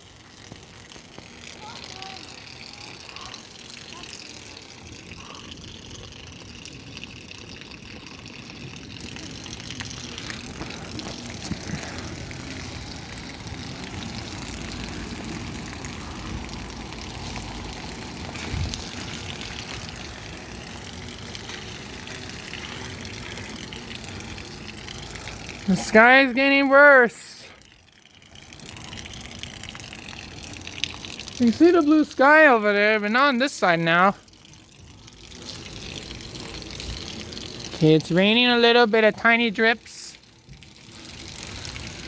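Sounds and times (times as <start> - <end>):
light rain hiss: 0.0 - 42.0.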